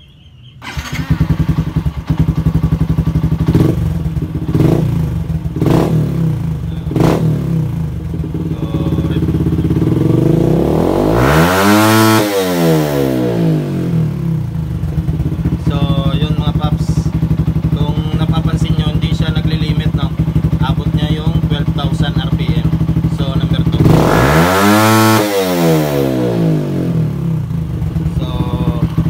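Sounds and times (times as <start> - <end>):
motorcycle engine revving: 0.6 - 29.0.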